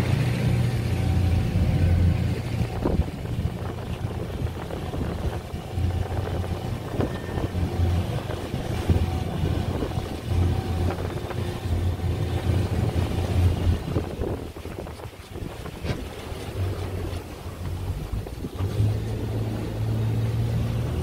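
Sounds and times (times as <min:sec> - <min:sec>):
boat engine rumbling: 0:00.0 - 0:21.0
water rushing past hull: 0:00.0 - 0:21.0
wind buffeting microphone: 0:00.0 - 0:21.0.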